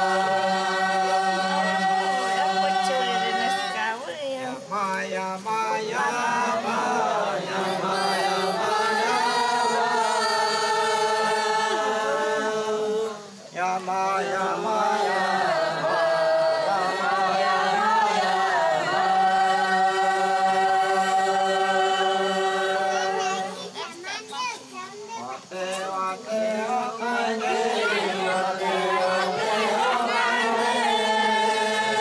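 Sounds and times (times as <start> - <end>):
chant with long held notes: 0.0 - 23.8, 25.2 - 32.0.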